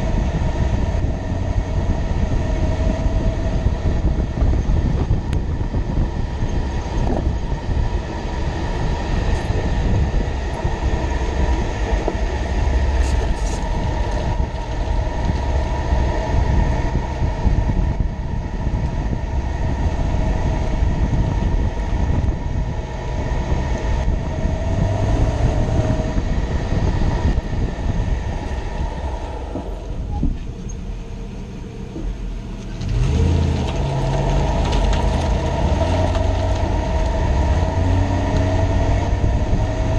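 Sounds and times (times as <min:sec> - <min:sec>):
faint steady whine: 0:00.0 - 0:32.8
vehicle road rumble: 0:00.0 - 0:39.9.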